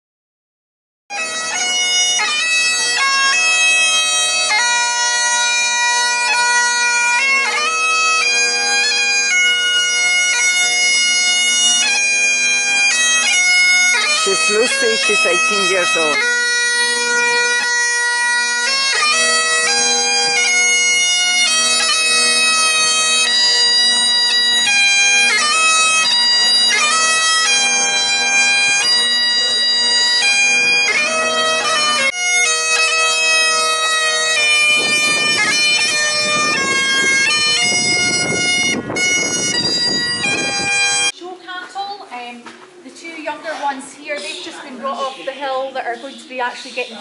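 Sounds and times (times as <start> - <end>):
bagpipes playing a melody: 1.1 - 41.2.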